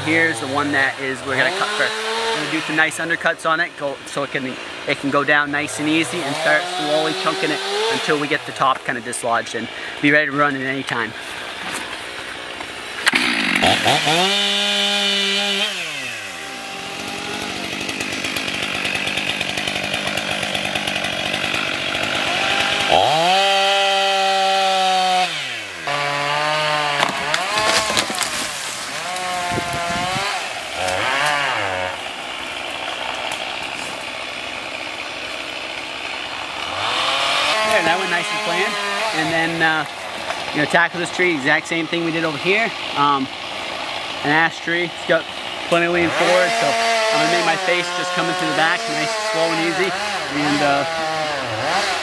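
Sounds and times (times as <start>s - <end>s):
chainsaw revving and cutting wood: 0.0s - 52.0s.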